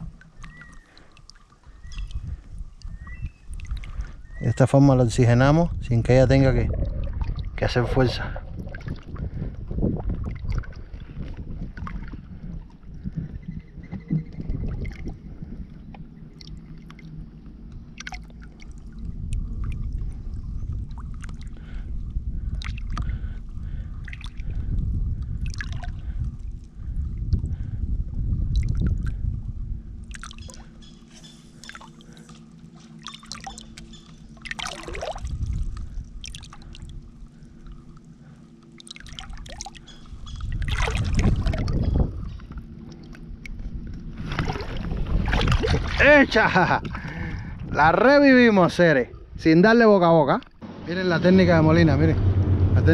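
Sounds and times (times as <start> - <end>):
water sloshing and trickling: 0.0 - 27.6, 28.4 - 50.7
low uneven rumble: 0.0 - 52.9.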